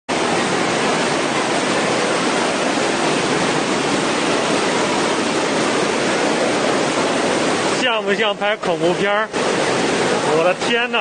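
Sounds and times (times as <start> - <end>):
floodwater rushing: 0.1 - 11.0.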